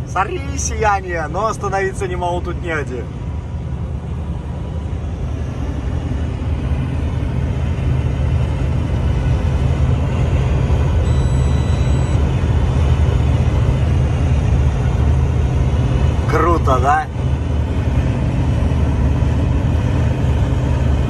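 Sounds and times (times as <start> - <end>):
road noise: 0.0 - 21.0
truck engine rumble inside cab: 0.0 - 21.0.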